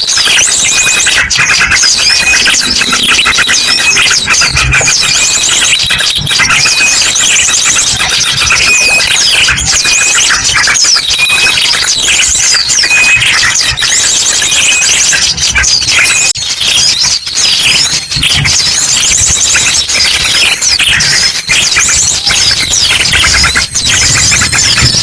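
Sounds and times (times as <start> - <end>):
chorus of small birds chirping: 0.0 - 25.0
high trills and whistles: 0.0 - 25.0.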